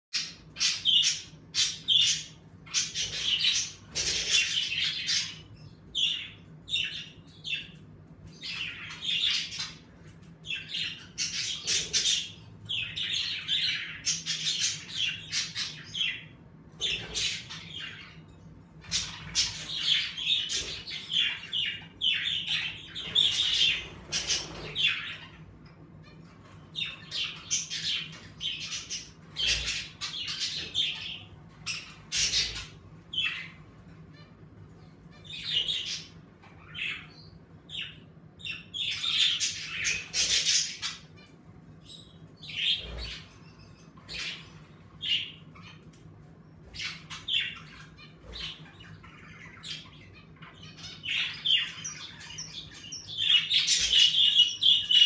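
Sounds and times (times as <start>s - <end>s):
budgerigars chirping and squawking: 0.1s - 55.0s.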